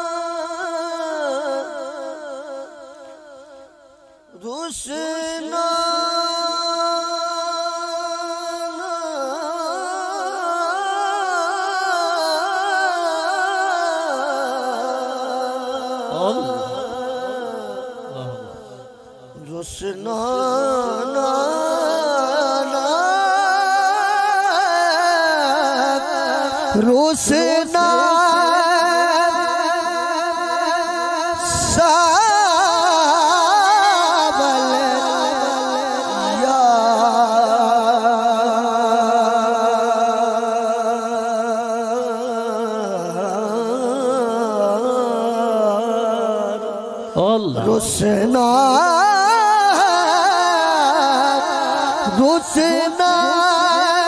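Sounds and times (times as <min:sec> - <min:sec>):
man singing into microphone: 0:00.0 - 0:54.0.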